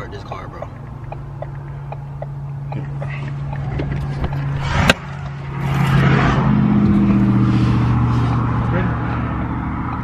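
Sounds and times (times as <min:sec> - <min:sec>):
car engine hum: 0:00.0 - 0:10.0
vehicle hum with road noise: 0:00.0 - 0:10.0.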